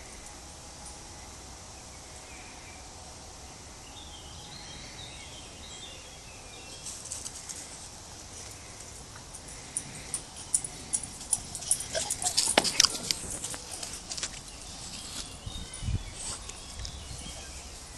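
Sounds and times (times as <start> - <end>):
steady woodland hiss: 0.0 - 17.9.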